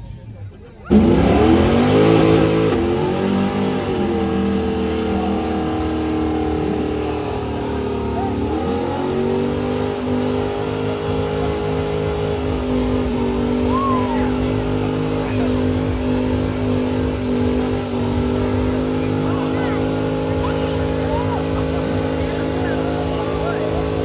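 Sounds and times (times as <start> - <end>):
engine revving hard: 0.0 - 24.0.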